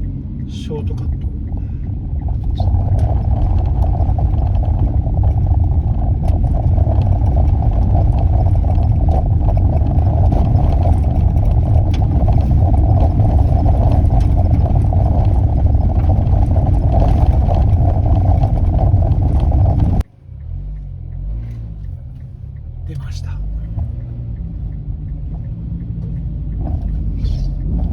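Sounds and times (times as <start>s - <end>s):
car road and engine noise: 0.0s - 27.9s.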